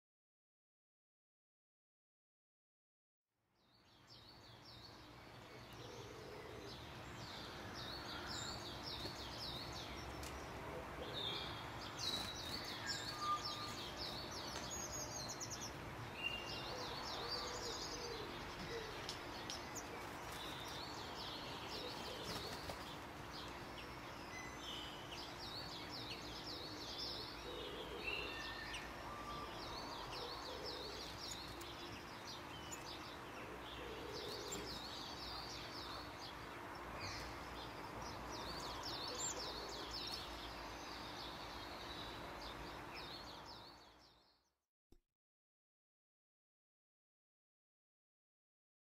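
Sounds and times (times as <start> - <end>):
birds singing and chirping: 3.6 - 44.4.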